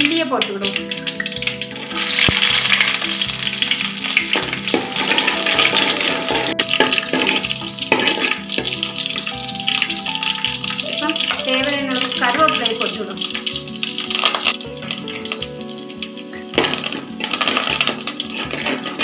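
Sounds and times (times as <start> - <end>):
seeds and onions sizzling in oil: 0.0 - 19.0
ladle stirring in pot: 0.8 - 10.8, 12.0 - 19.0.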